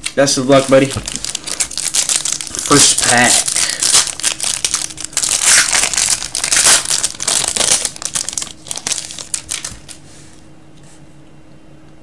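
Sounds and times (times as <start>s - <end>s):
wrapper crinkling and tearing: 0.0s - 10.0s.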